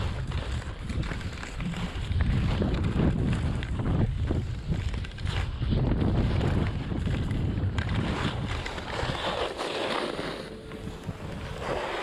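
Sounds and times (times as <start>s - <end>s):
skis scraping over snow: 0.0s - 12.0s
wind buffeting microphone: 0.0s - 12.0s.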